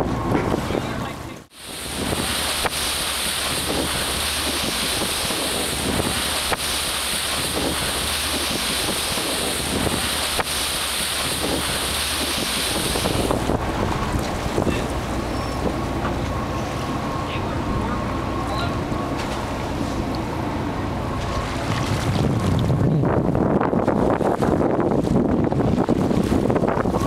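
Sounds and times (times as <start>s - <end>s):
boat engine drone: 0.0s - 27.0s
water washing: 0.0s - 27.0s
wind buffeting microphone: 0.0s - 27.0s.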